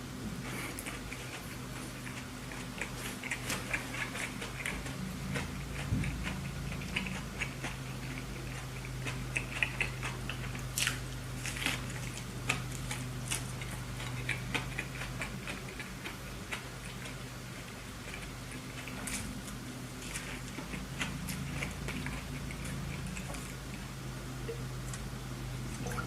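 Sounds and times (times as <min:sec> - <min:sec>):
person chewing: 0:00.3 - 0:23.9.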